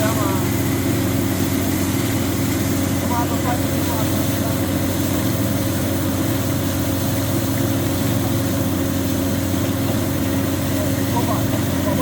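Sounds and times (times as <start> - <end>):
drilling machinery engine hum: 0.0 - 12.0.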